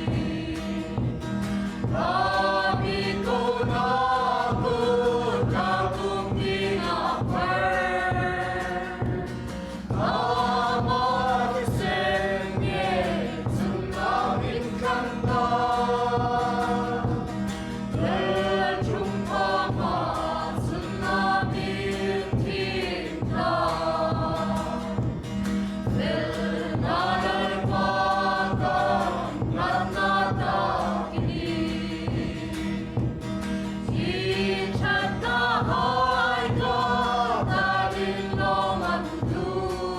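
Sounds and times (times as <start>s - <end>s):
choir singing a gospel hymn: 0.0s - 39.9s.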